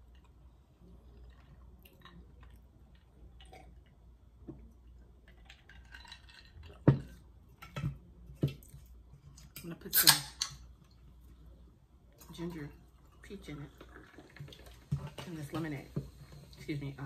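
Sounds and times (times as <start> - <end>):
faint drinking sounds: 0.0 - 17.0.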